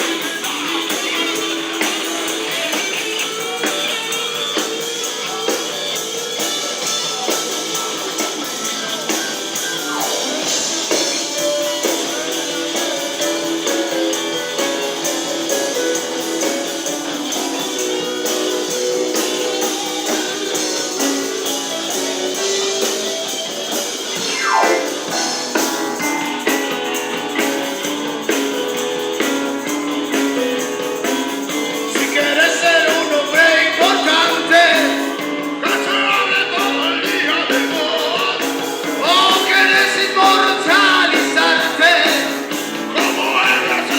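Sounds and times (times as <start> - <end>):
blues band playing live: 0.0 - 43.9.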